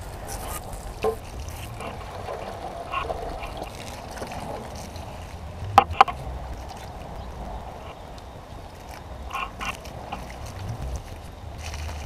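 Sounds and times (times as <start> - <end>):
garden hose water splashing: 0.0 - 12.0.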